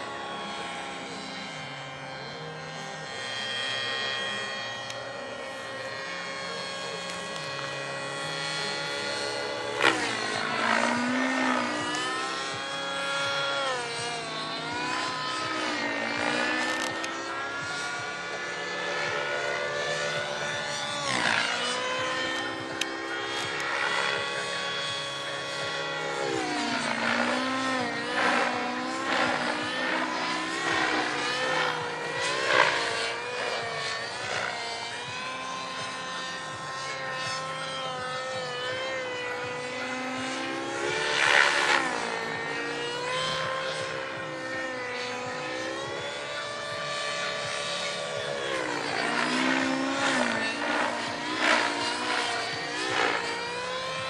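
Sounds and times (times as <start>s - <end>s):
model helicopter rotor hum: 0.0s - 54.0s.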